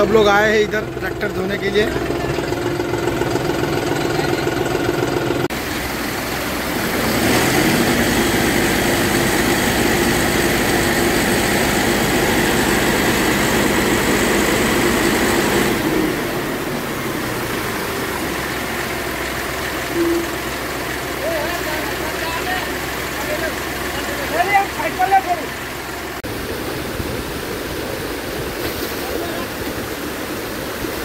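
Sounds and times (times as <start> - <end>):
tractor engine running: 0.0 - 28.5.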